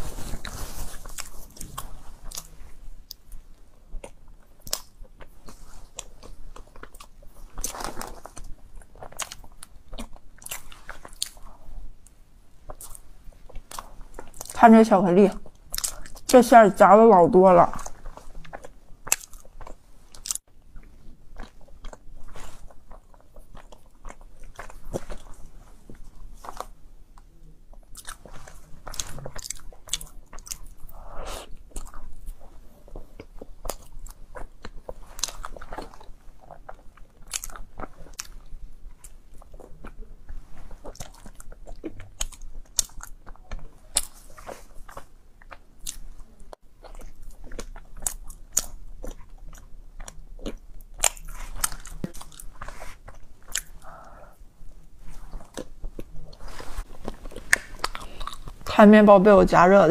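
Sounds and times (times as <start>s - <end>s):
person chewing bread: 0.0s - 14.6s, 15.4s - 16.4s, 17.7s - 58.7s.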